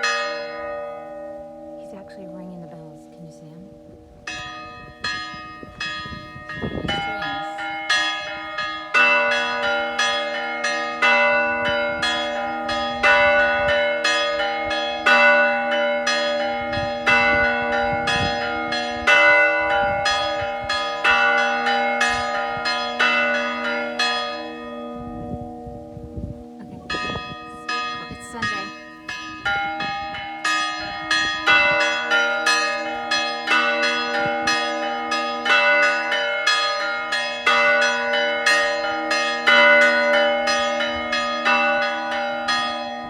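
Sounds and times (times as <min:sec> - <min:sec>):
church bells ringing a tune: 0:00.0 - 0:43.0.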